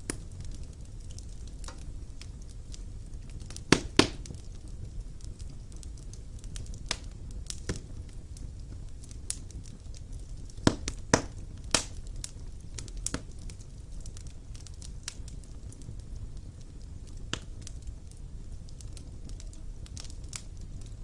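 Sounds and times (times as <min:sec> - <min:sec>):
fire crackles and pops: 0:00.0 - 0:21.0
low rumble of fire flames: 0:00.0 - 0:21.0.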